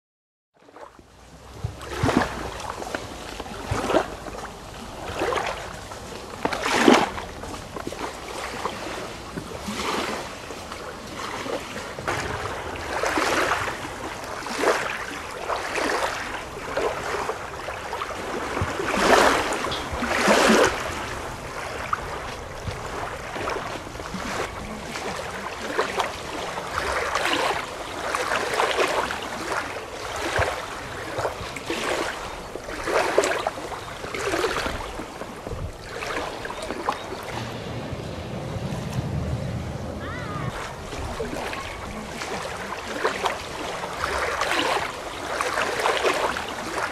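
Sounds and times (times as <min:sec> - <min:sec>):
small waves lapping: 0:00.6 - 0:46.9.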